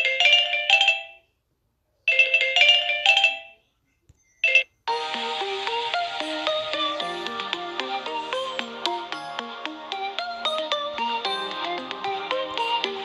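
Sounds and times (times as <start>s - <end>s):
bright chime ringtone melody: 0.0s - 1.3s, 2.1s - 3.6s, 4.2s - 13.0s
fuller ringtone melody: 0.0s - 1.3s, 2.1s - 3.7s, 4.3s - 13.0s.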